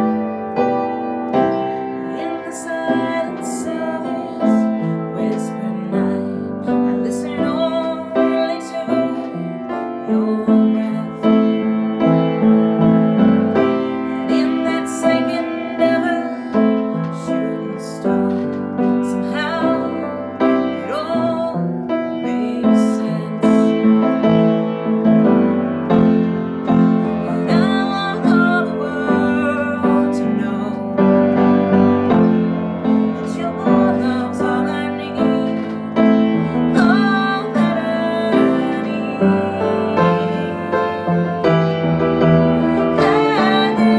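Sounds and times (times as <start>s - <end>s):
piano chords: 0.0s - 43.9s
woman singing: 1.3s - 12.0s, 13.2s - 24.3s, 25.4s - 43.9s.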